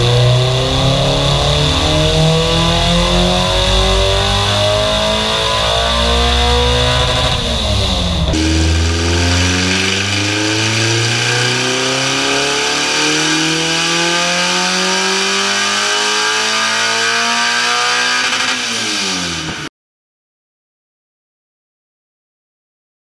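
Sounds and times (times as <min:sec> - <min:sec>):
car engine revving at full throttle: 0:00.0 - 0:19.7.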